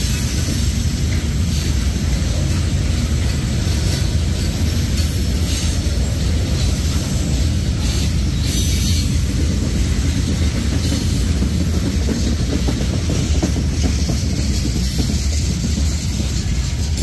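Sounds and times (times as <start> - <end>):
train wheels rumbling on rail: 0.0 - 17.0
wheels clicking over rail joints: 0.0 - 17.0.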